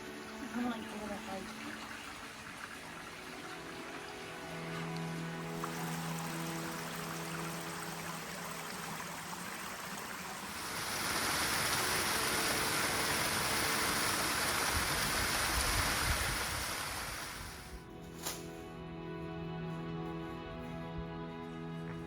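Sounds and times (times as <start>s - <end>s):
water rushing over rocks: 0.0s - 17.7s.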